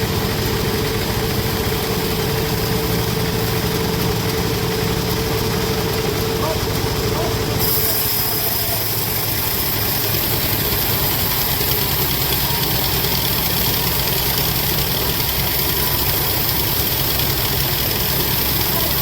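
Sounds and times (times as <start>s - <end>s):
sawmill machinery drone: 0.0s - 19.0s.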